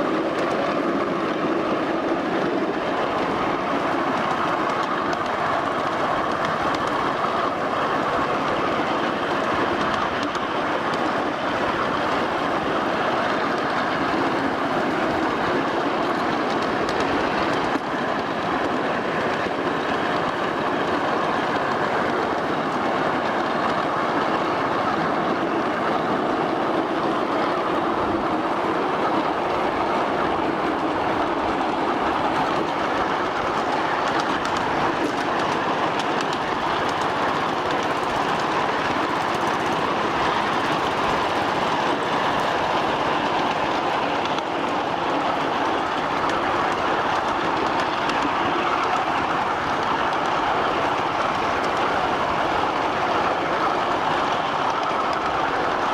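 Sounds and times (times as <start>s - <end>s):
miniature train wheels rolling: 0.0s - 55.9s.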